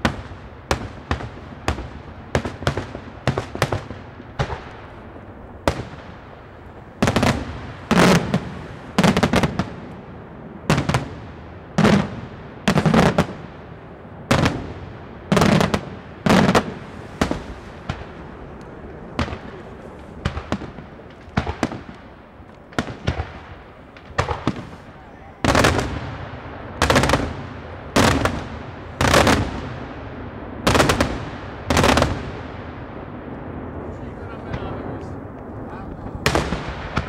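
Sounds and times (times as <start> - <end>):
fireworks bursting with echo: 0.0 - 37.0.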